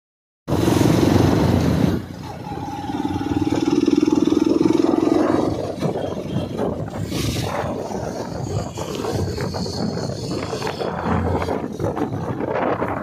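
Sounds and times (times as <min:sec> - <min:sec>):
motorcycle engine running: 0:00.5 - 0:13.0
wind rushing over microphone: 0:00.5 - 0:13.0.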